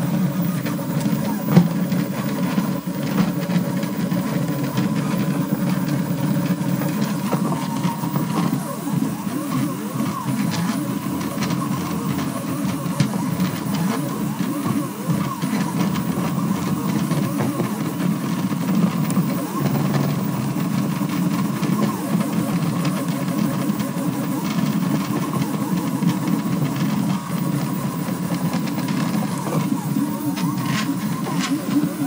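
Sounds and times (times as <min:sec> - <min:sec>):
stepper motors whining: 0:00.0 - 0:32.0.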